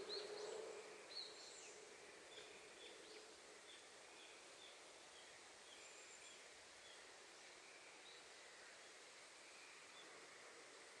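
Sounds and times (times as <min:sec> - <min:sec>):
light ambient hiss: 0:00.0 - 0:11.0.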